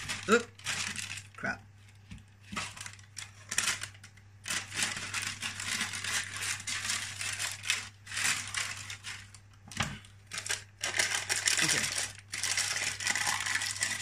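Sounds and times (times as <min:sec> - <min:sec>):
paper cupcake cases crinkling: 0:00.0 - 0:14.0.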